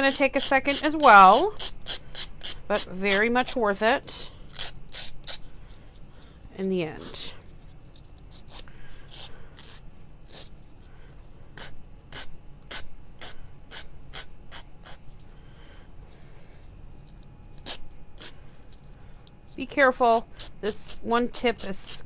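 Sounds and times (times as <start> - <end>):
nail file rasping on paper: 0.0 - 6.1, 6.9 - 10.6, 11.5 - 15.3, 17.0 - 18.9, 19.5 - 22.0.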